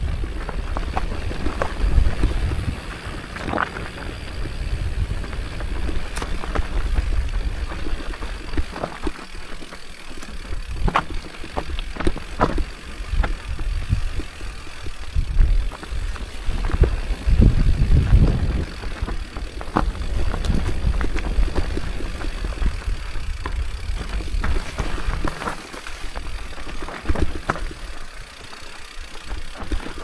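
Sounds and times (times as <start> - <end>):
bike rattling over stones: 0.0 - 30.0
mountain bike rumbling: 0.0 - 30.0.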